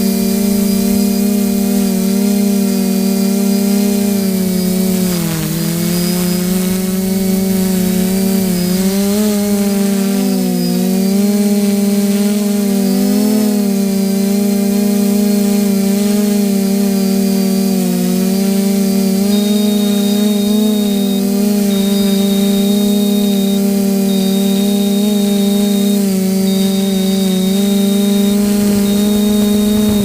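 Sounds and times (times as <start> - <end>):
buzzing motor drone: 0.0 - 30.0.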